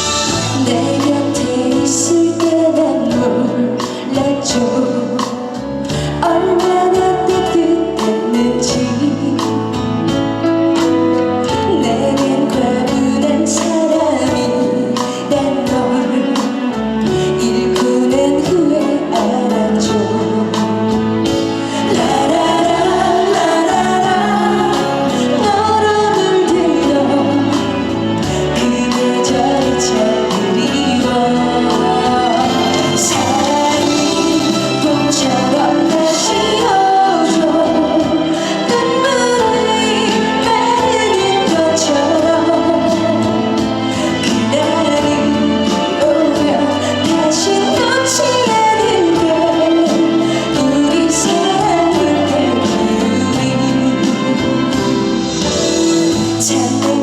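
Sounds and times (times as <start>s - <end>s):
backing track with steady beat: 0.0s - 57.0s
woman singing pop song: 0.0s - 57.0s.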